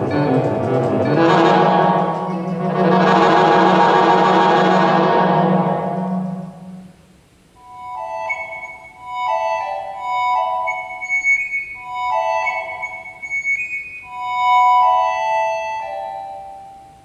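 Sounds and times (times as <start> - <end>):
high synthesized notes: 0.0 - 16.7
loud held synth tone: 0.0 - 17.0.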